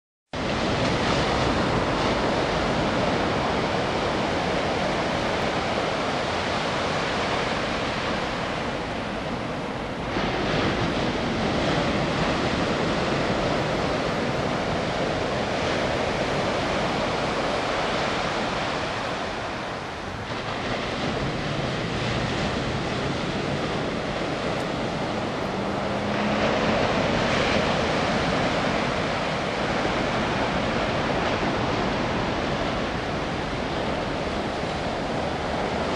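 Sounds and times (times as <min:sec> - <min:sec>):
small waves breaking on beach: 0:00.4 - 0:35.9.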